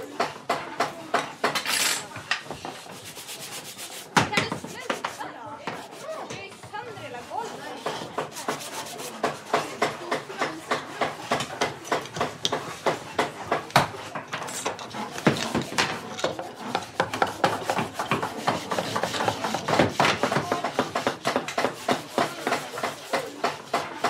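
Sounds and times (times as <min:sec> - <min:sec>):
wood scraping by hand: 0:02.4 - 0:24.0.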